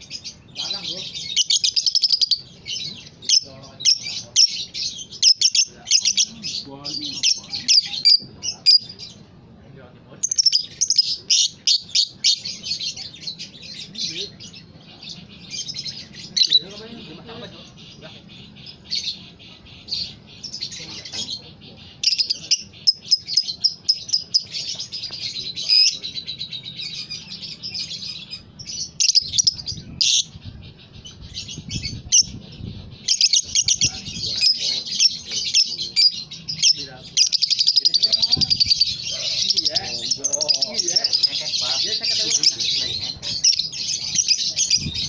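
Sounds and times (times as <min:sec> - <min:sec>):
lovebird chattering: 0:00.0 - 0:09.3, 0:10.1 - 0:45.0.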